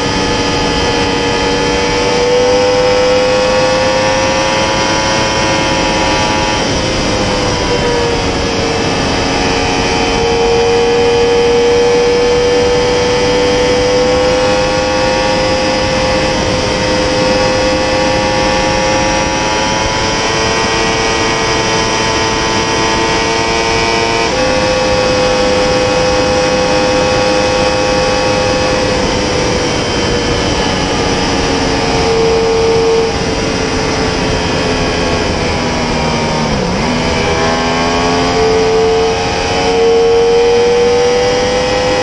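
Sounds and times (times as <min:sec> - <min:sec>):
motorcycle engine at high revs: 0:00.0 - 0:42.0
wind rush: 0:00.0 - 0:42.0.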